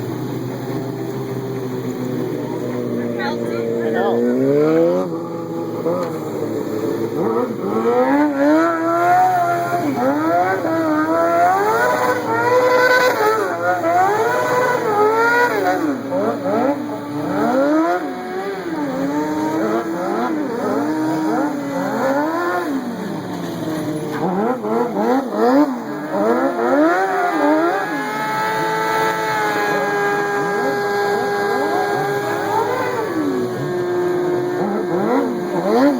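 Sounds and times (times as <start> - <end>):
small engine revving: 0.0 - 35.9.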